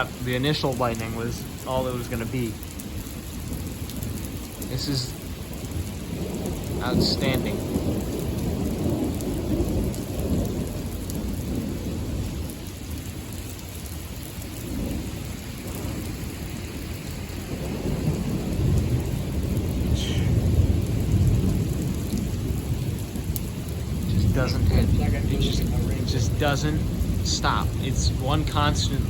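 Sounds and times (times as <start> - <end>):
thunder rumbling: 0.0 - 13.3, 14.3 - 29.0
steady rain: 0.0 - 29.0.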